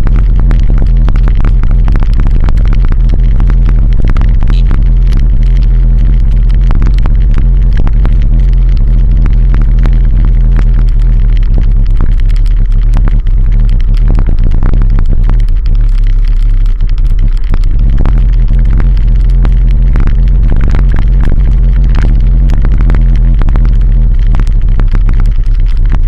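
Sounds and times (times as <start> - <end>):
engine drone: 0.0 - 26.0
road rumble: 0.0 - 26.0.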